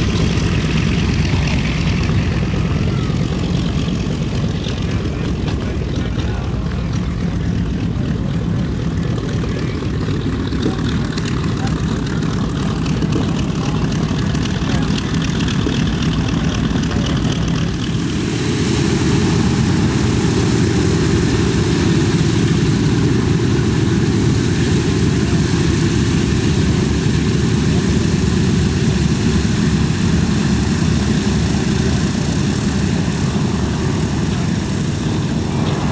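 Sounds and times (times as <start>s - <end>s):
propeller aircraft engines droning: 0.0s - 35.9s.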